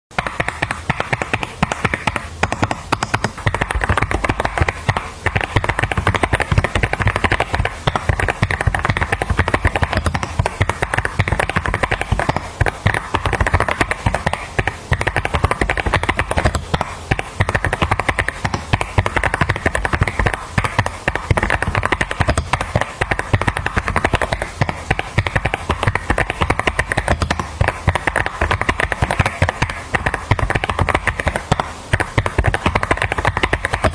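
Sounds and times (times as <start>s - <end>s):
mechanical keyboard typing: 0.2s - 33.9s.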